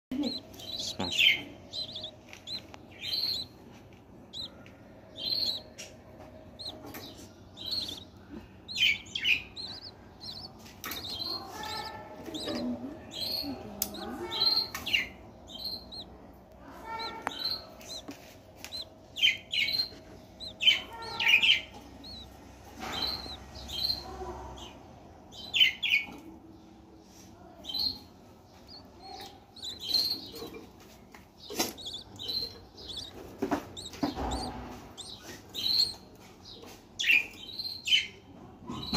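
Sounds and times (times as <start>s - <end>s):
budgerigars chirping: 0.1s - 26.2s, 27.6s - 38.9s.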